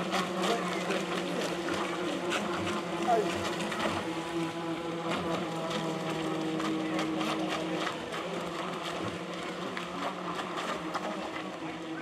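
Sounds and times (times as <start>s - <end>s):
electric motor whine of boats: 0.0s - 12.0s.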